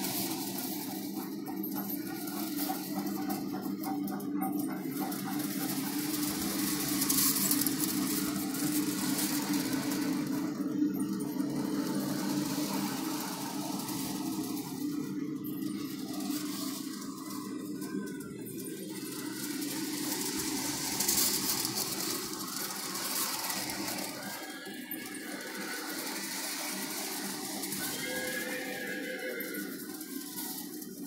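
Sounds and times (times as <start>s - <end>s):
toy train clatter: 0.0s - 31.0s
toy train motor hum: 0.0s - 31.0s.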